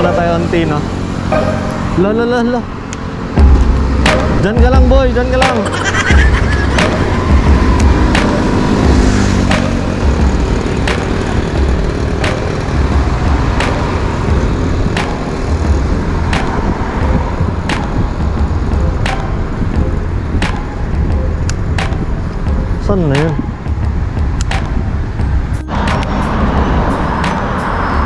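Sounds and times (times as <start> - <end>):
low rumble of road traffic: 0.0 - 28.0.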